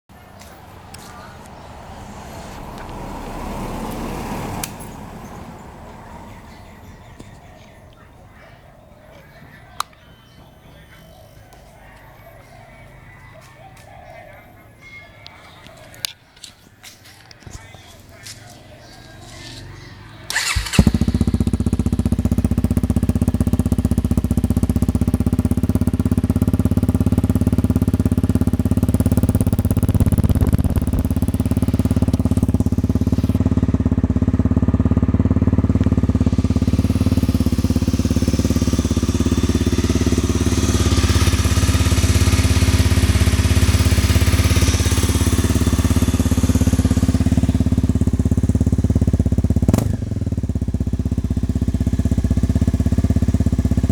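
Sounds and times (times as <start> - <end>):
motorcycle engine idling: 0.2 - 15.1, 17.6 - 53.9.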